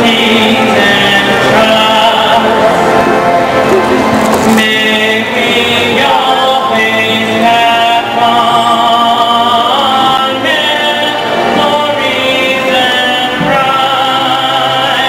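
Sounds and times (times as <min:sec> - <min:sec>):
people singing slow melody: 0:00.0 - 0:15.0.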